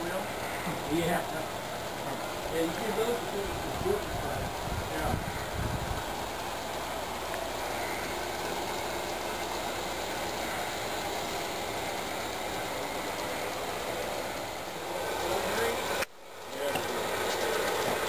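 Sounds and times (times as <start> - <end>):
model train running on track: 0.0 - 18.0.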